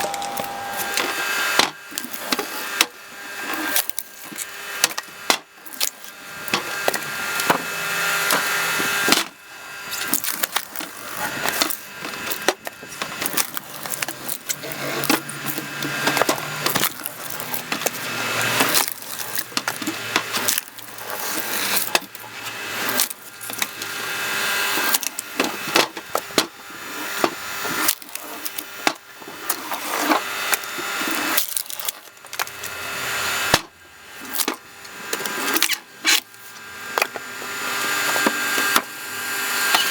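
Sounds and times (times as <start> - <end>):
log splitter motor running: 0.0 - 39.9
wood creaking and cracking: 0.0 - 39.9.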